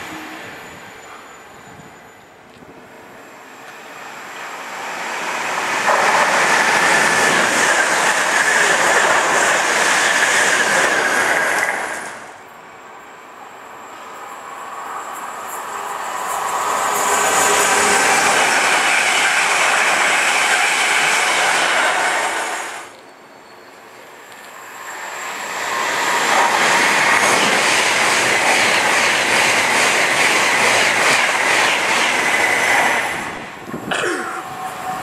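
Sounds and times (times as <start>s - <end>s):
approaching train rumble: 0.0s - 35.0s
train rushing past: 0.0s - 35.0s.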